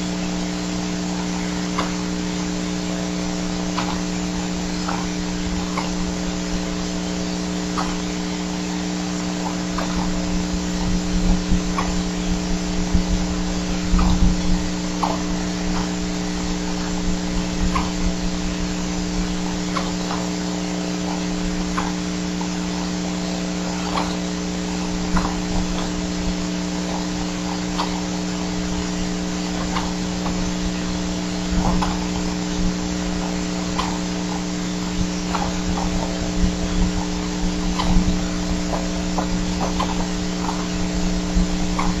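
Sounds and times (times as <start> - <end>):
electrical hum and hiss: 0.0 - 42.0.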